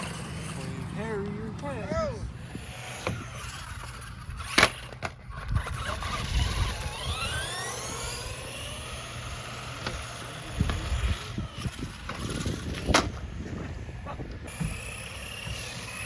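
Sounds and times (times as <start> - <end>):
electric motor whining: 0.0 - 16.0
wheels rumbling on concrete: 0.0 - 16.0.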